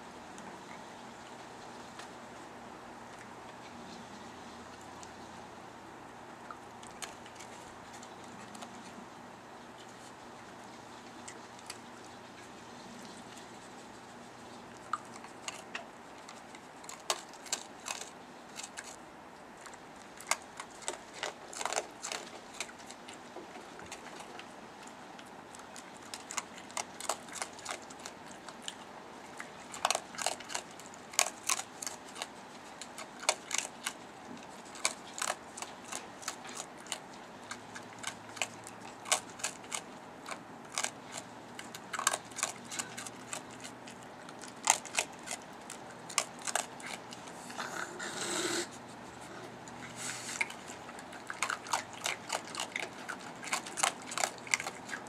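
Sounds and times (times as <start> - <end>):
raccoon crunching dry kibble: 0.0 - 55.0.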